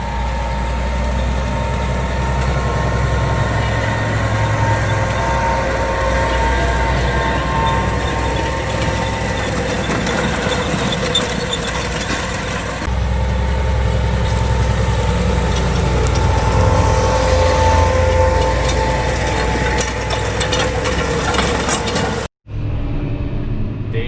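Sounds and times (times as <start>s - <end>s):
farm machinery engine drone: 0.0s - 24.0s.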